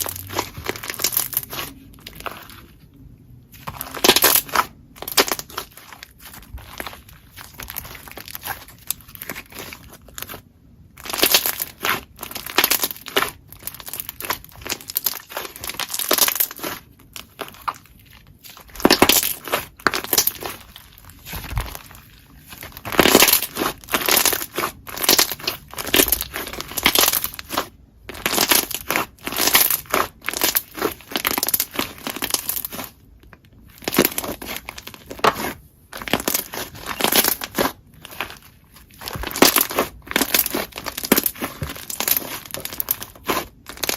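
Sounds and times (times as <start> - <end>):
slime crackling and popping: 0.0 - 2.8, 3.5 - 43.9.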